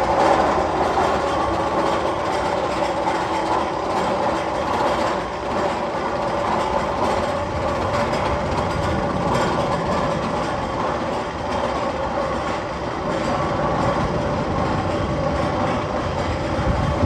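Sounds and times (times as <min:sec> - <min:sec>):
roller coaster rumble: 0:00.0 - 0:17.0.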